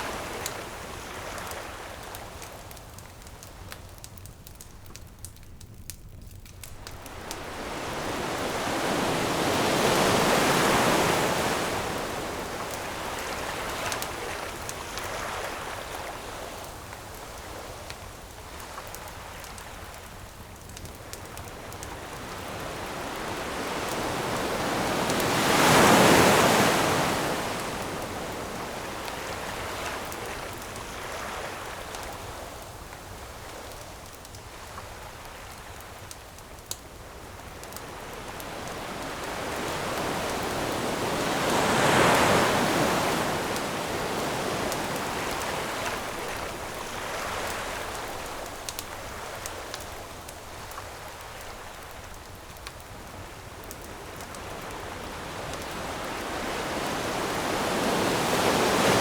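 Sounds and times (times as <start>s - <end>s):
ocean waves breaking on shore: 0.0s - 3.0s, 6.7s - 20.0s, 20.9s - 33.8s, 37.0s - 59.0s
campfire crackling: 0.0s - 59.0s.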